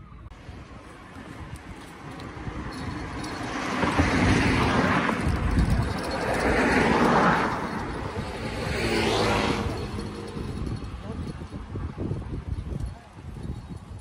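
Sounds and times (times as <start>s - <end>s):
road vehicles passing: 0.0s - 14.0s.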